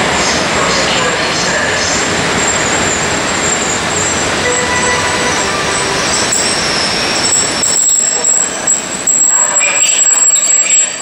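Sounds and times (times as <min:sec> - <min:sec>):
train wheels rumbling on rails: 0:00.0 - 0:11.0
wheels squealing: 0:01.9 - 0:11.0.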